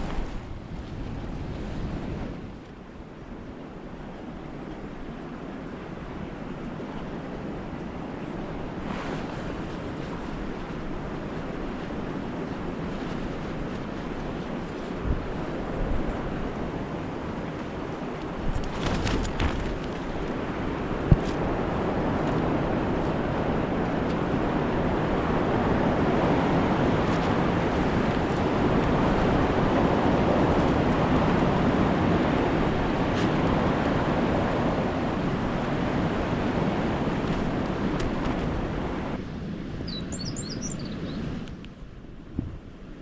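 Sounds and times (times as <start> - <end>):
strong wind buffeting microphone: 0.0 - 43.0.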